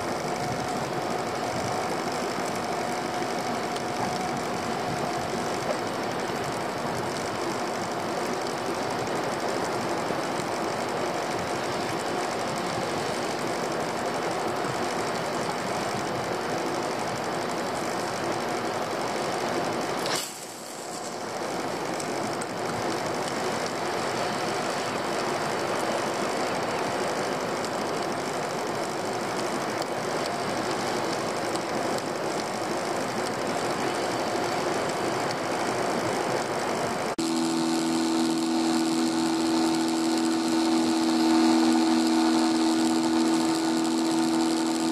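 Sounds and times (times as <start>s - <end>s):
boat engine running: 0.0s - 44.9s
boat wake churning: 0.0s - 44.9s.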